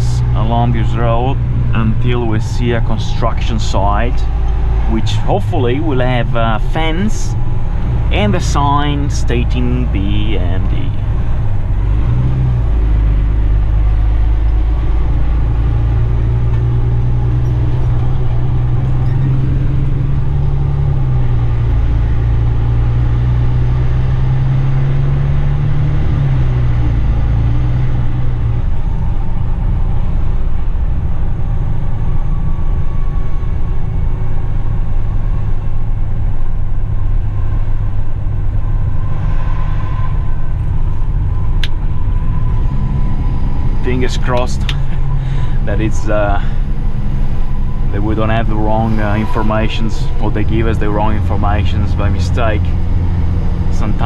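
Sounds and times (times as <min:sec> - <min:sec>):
road rumble: 0:00.0 - 0:54.0
truck diesel engine droning: 0:00.0 - 0:54.0.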